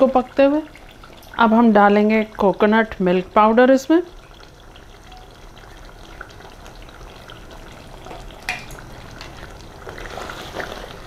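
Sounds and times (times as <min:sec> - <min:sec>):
curry simmering and sizzling: 0:00.0 - 0:11.0.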